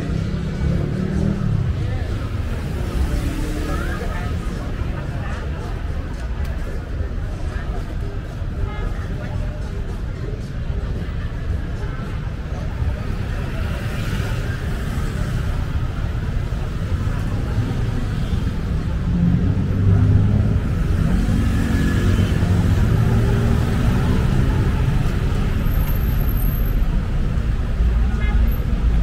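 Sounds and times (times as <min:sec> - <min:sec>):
traffic rumble: 0:00.0 - 0:29.0.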